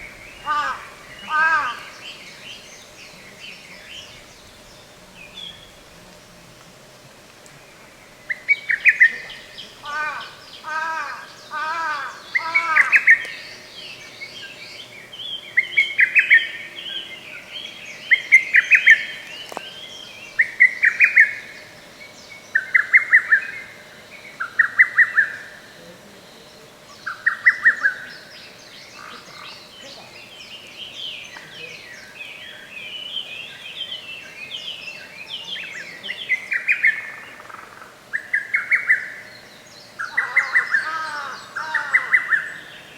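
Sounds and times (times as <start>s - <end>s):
high bird chatter: 0.0s - 5.9s, 7.8s - 42.9s.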